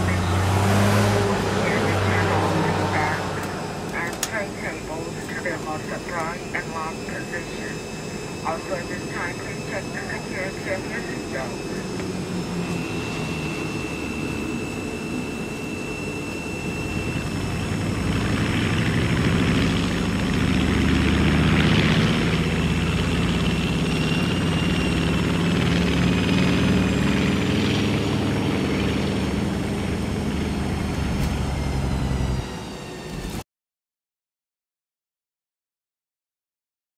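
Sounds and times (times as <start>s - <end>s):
jet engines heard from cabin: 0.0s - 33.4s.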